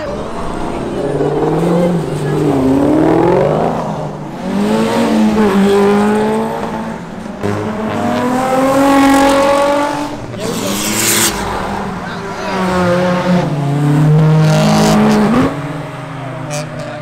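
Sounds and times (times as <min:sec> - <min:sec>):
cars accelerating on wet road: 0:00.0 - 0:17.0.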